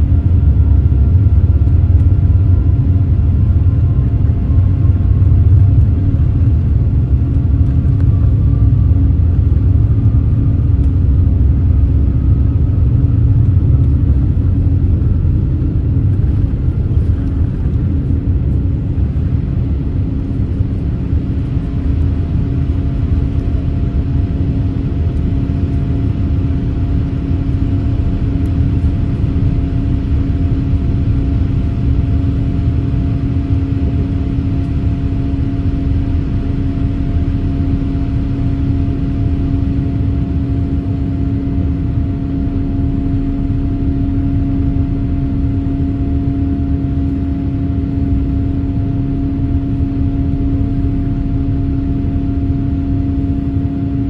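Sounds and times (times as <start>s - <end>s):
cabin airflow and engine rumble: 0.0s - 54.0s
steady hum tone: 0.0s - 54.0s.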